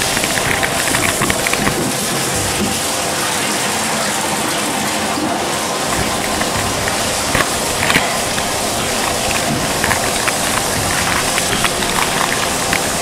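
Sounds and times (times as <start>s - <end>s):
water pouring from tub spout: 0.0s - 13.0s.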